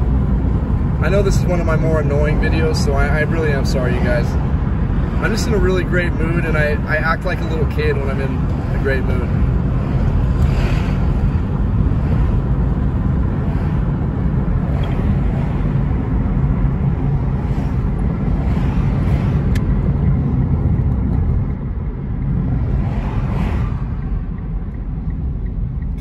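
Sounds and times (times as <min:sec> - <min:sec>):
car interior road and engine rumble: 0:00.0 - 0:26.0.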